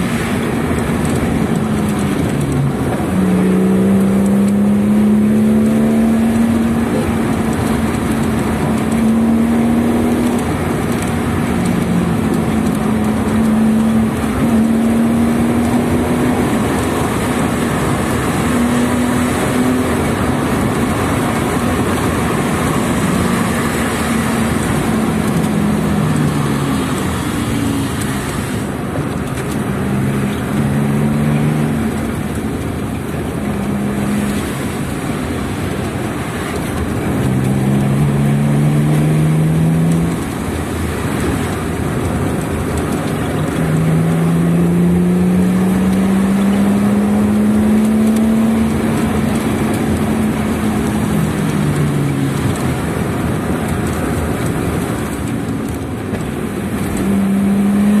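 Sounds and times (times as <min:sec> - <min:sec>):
car engine: 0:00.0 - 0:58.0.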